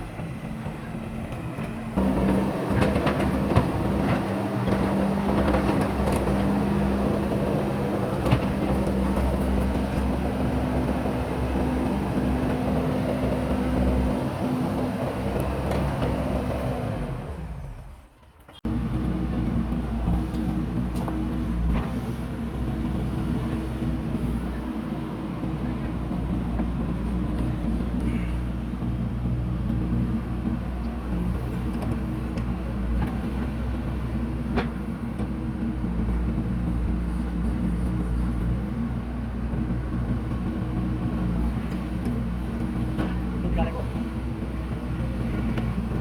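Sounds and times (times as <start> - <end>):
diesel engine running under load: 0.0 - 46.0.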